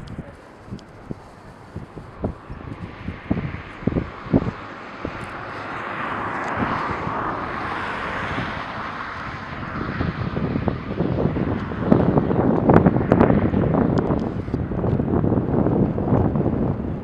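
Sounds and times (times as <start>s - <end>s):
aircraft passing over: 0.0s - 17.0s
wind thumps on microphone: 0.0s - 17.0s.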